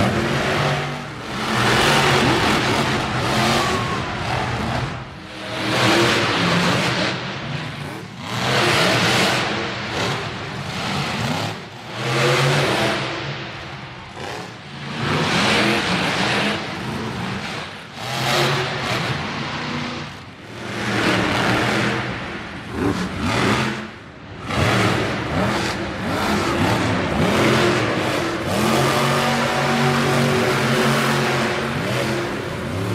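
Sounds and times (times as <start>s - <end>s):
monster truck engine revving: 0.0s - 32.9s.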